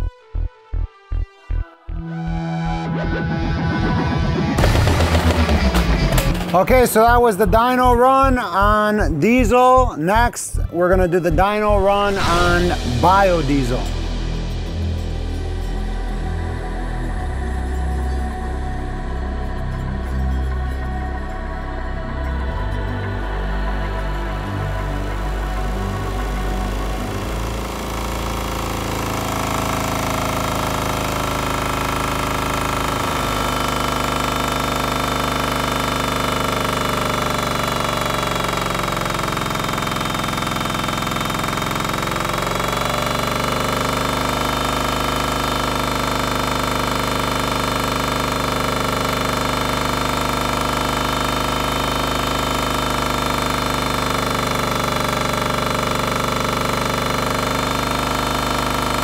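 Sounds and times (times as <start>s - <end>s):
diesel engine running at high speed: 2.3s - 59.0s.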